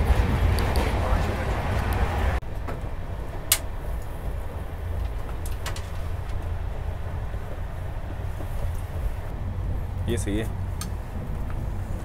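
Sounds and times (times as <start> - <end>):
moving train rumble: 0.0 - 12.0.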